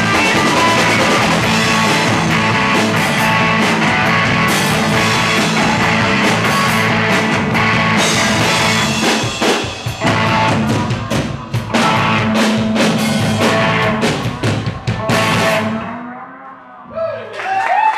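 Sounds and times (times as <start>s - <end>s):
rock band playing: 0.0s - 16.8s.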